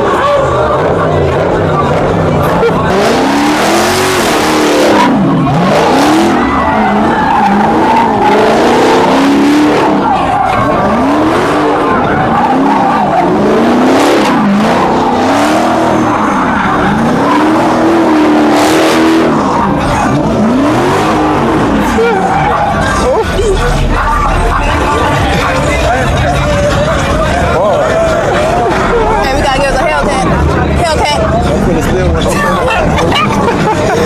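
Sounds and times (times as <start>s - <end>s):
car engine revving: 0.0s - 34.0s
tyres squealing and skidding: 0.0s - 34.0s.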